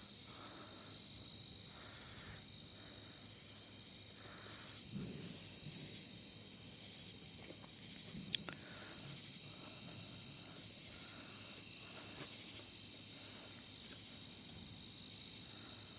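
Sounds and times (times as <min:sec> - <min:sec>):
night insects chorus: 0:00.0 - 0:15.9.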